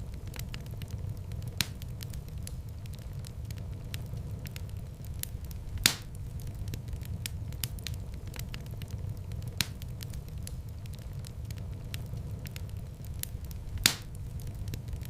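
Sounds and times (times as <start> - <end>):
loud fire pops: 0.0 - 15.0
wood fire crackling: 0.0 - 15.0.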